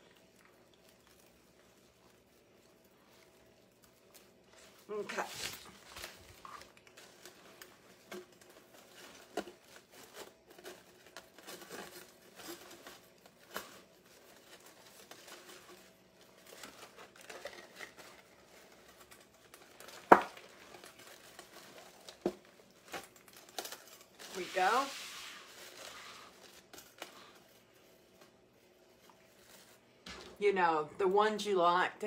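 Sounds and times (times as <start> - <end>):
mesh and ribbon rustling: 0.0 - 30.6.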